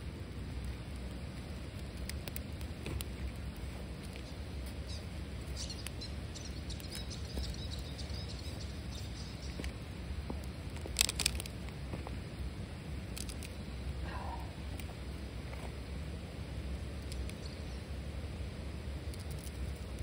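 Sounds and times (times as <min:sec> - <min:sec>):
steady low rumble: 0:00.0 - 0:20.0
wood fire crackling: 0:00.0 - 0:20.0.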